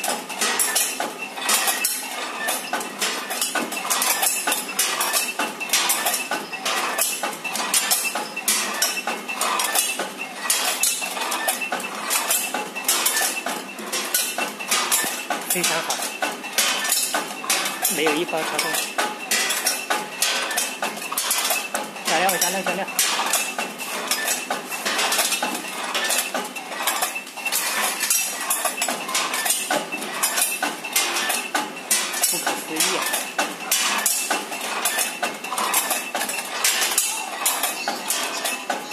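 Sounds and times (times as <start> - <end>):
candies rattling on metal pans: 0.0 - 38.9.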